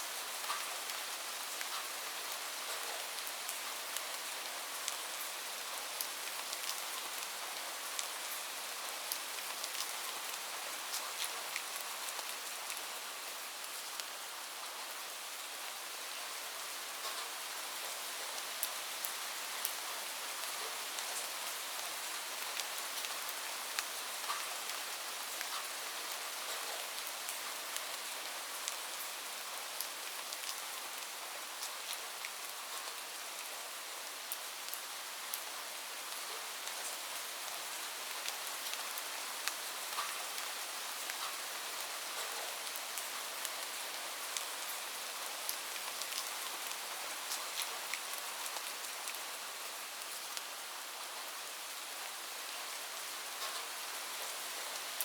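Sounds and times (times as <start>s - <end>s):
light rain falling: 0.0s - 55.0s
raindrops ticking on a surface: 0.2s - 14.2s, 16.9s - 33.5s, 34.2s - 50.5s, 52.7s - 55.0s.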